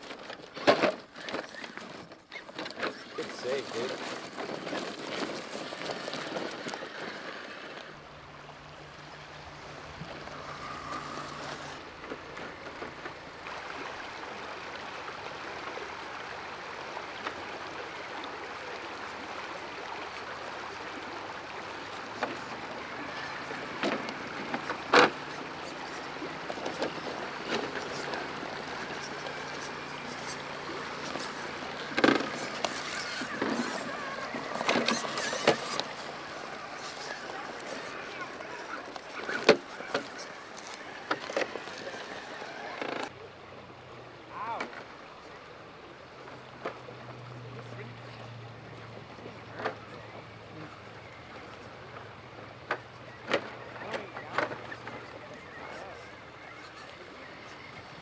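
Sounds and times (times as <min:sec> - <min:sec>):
faint low motor hum: 0:00.0 - 0:58.0.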